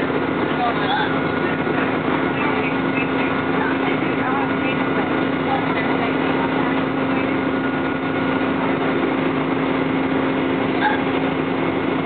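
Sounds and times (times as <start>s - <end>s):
bus engine drone: 0.0s - 12.0s.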